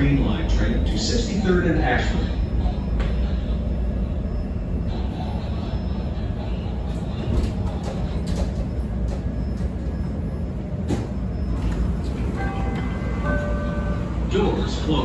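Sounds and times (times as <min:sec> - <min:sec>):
train car rumbling on rails: 0:00.0 - 0:15.0.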